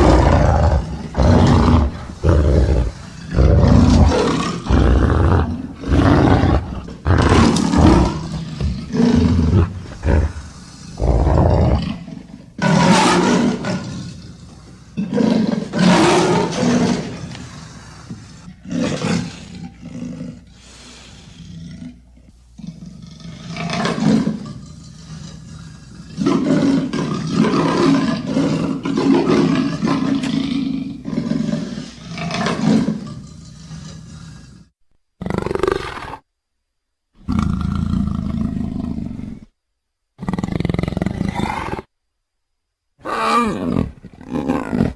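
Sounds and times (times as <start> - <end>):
animal roars and growls: 0.0 - 22.0, 22.6 - 36.2, 40.2 - 41.9, 43.0 - 44.9.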